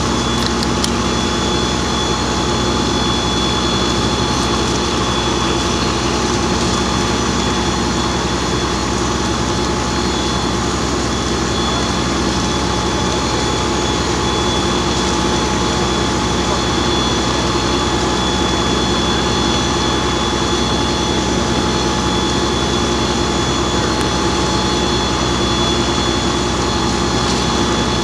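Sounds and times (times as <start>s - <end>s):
fire engine pump drone: 0.0s - 28.0s
thin high whine: 0.0s - 28.0s.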